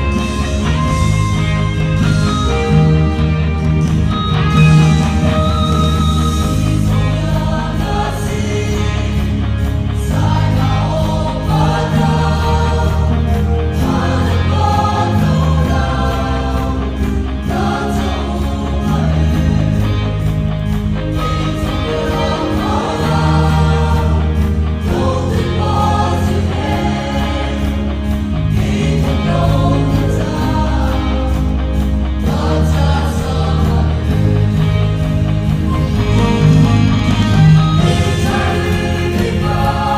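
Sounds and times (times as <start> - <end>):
mixed choir singing gospel: 0.0 - 39.9
sustained low bass notes: 0.0 - 39.9.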